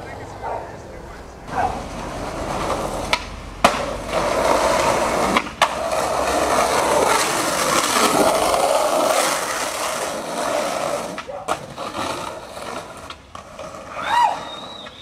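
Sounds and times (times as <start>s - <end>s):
skateboard wheels rolling on asphalt: 0.0s - 15.0s
skateboard clacking on ground: 1.5s - 15.0s.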